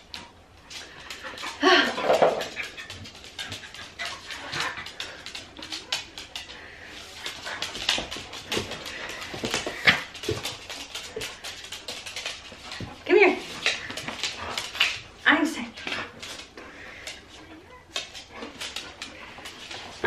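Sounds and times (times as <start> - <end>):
dogs scuffling on hardwood floor: 0.0 - 20.0.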